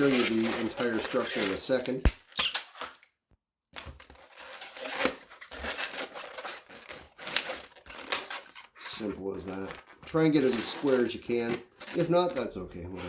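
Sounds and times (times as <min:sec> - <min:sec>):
balloons rubbing and squeaking: 0:00.0 - 0:02.8, 0:04.3 - 0:13.0.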